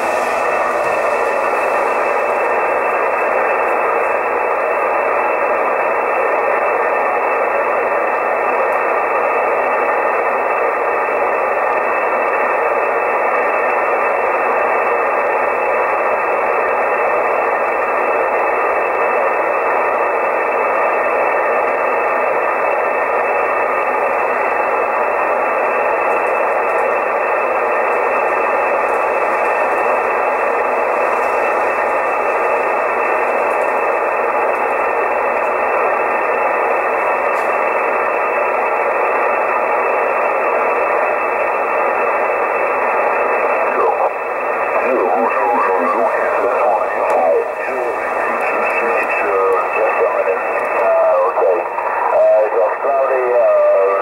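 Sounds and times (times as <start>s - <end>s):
shortwave radio static hiss: 0.0s - 54.0s.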